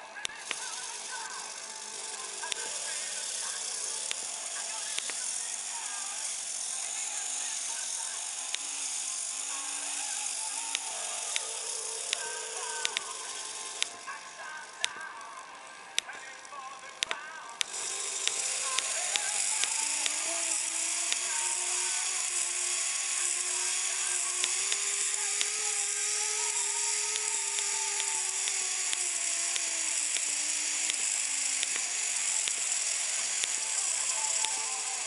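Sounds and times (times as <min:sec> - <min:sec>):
faint regular ticks: 0:00.0 - 0:35.0
servo motor whirring: 0:00.0 - 0:35.0.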